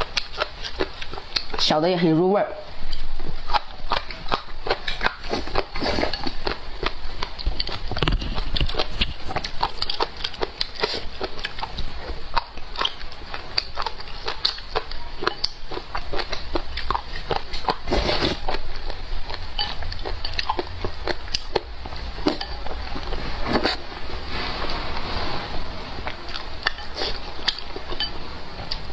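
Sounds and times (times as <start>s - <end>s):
crunchy chewing: 0.0s - 1.7s, 2.8s - 28.9s.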